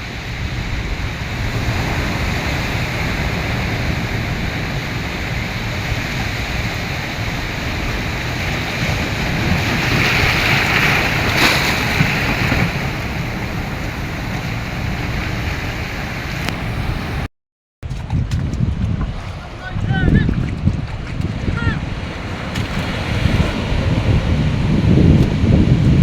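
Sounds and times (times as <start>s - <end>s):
sea waves breaking: 0.0s - 26.0s
wind on microphone: 0.0s - 26.0s.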